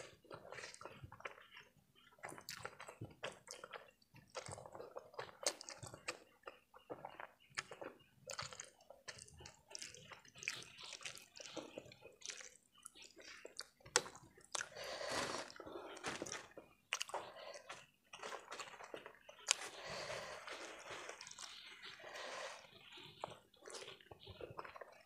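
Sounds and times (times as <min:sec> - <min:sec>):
slurping and chewing noodles: 0:00.0 - 0:25.0.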